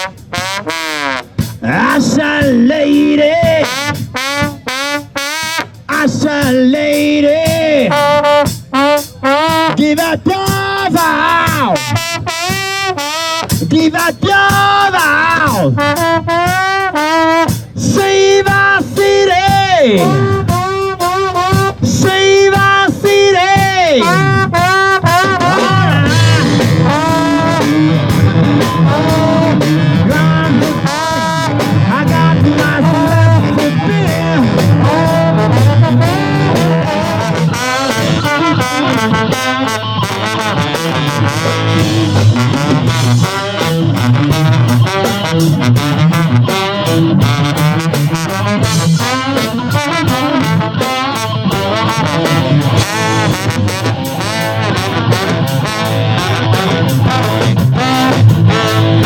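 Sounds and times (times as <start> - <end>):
drums: 0.0 - 59.0
electric guitar: 0.0 - 59.0
live rock band playing: 0.0 - 59.0.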